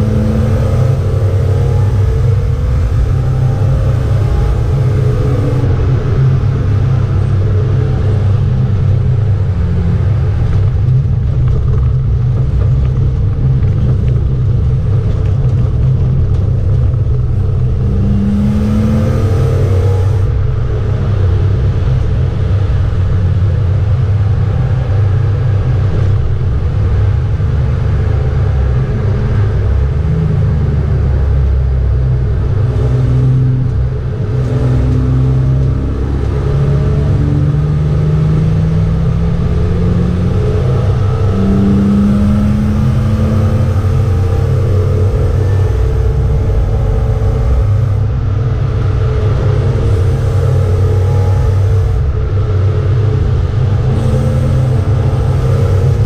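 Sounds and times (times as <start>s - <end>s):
car engine pulling hard: 0.0s - 56.0s.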